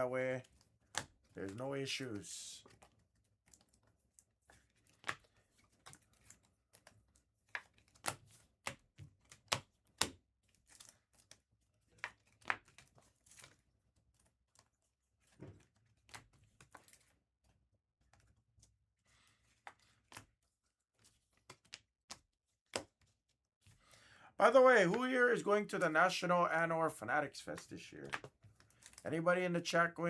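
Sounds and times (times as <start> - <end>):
cards and packaging clicking: 0.4 - 17.2, 21.0 - 23.2, 24.7 - 30.0.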